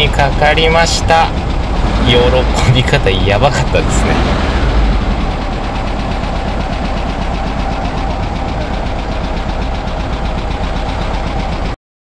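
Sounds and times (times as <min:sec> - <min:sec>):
engine idling: 0:00.0 - 0:11.8.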